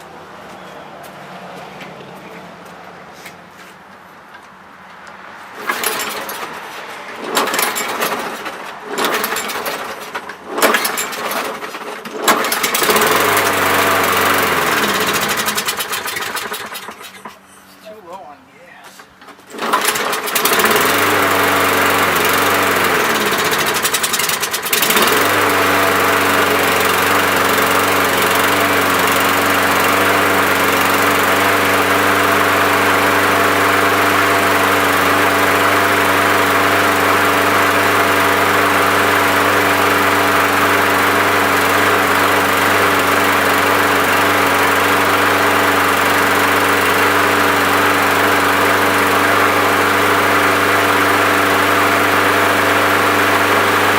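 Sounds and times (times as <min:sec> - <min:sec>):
lawn mower engine running: 0:05.4 - 0:17.7, 0:18.9 - 0:53.9.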